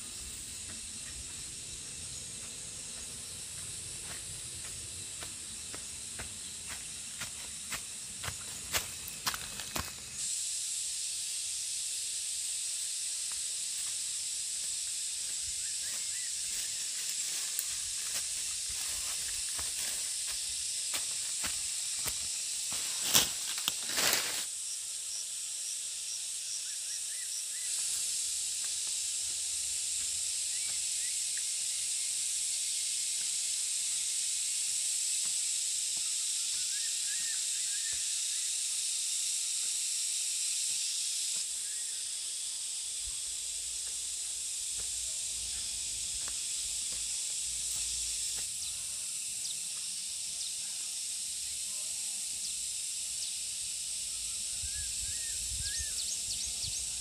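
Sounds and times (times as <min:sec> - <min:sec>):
high-pitched outdoor hiss: 0:00.0 - 0:57.0.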